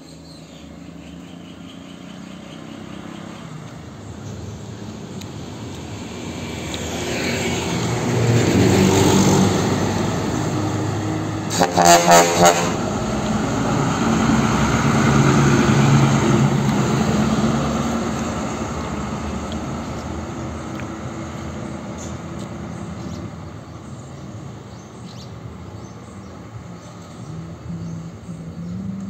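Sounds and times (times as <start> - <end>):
truck diesel engine passing: 0.4 - 29.0.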